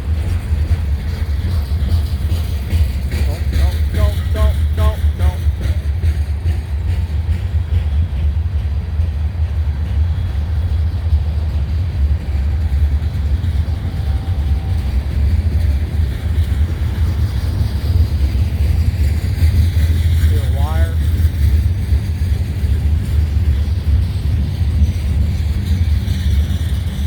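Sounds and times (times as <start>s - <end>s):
freight train cars rolling past: 0.0s - 27.0s.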